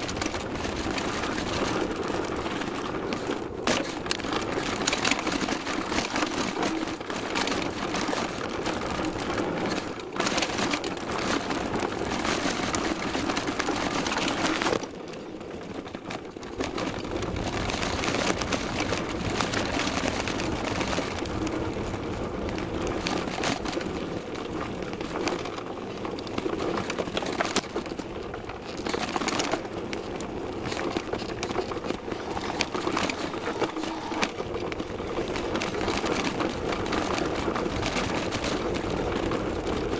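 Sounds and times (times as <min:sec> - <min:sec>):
mountain bike clattering on trail: 0:00.0 - 0:39.9.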